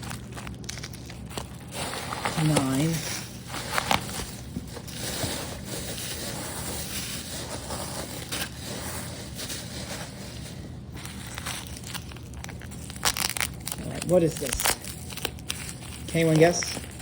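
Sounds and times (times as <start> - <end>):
packing material rustling: 0.0 - 17.0.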